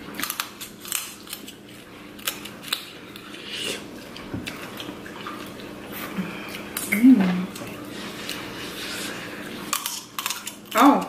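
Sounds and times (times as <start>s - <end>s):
food cracking and chewing: 0.0s - 11.0s.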